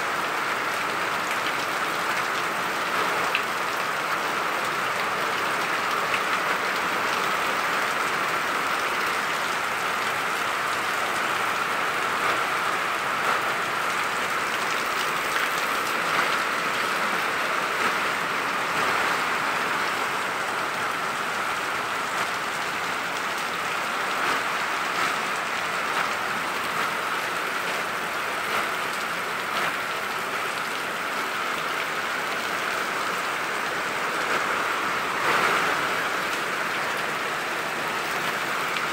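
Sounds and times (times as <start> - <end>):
heavy rain falling: 0.0 - 38.9
water pouring off a roof: 0.0 - 38.9.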